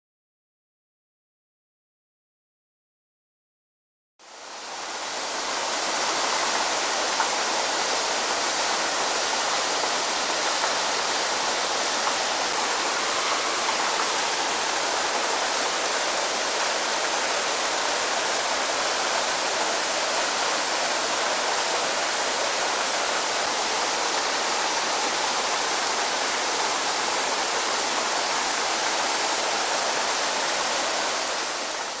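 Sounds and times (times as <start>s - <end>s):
waterfall rushing: 4.2s - 32.0s.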